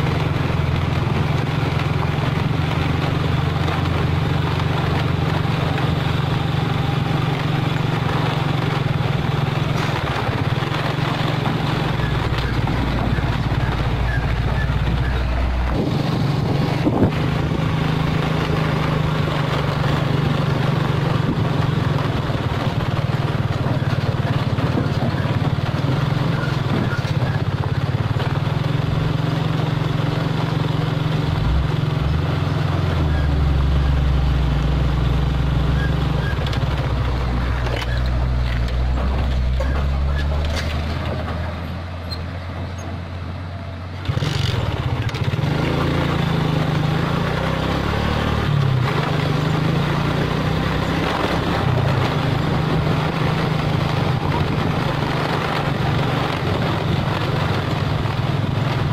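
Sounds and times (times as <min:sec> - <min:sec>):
diesel truck engine running: 0:00.0 - 0:58.9.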